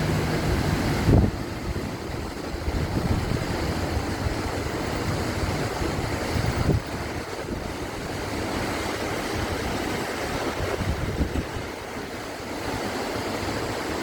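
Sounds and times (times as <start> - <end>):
heavy rain pouring: 0.0 - 12.2
wind buffeting microphone: 0.0 - 14.0.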